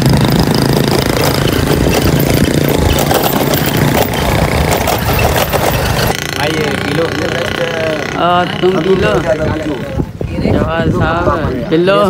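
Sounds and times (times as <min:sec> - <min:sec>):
loud rush of noise: 0:00.0 - 0:12.0
motorcycle engines humming: 0:00.0 - 0:12.0.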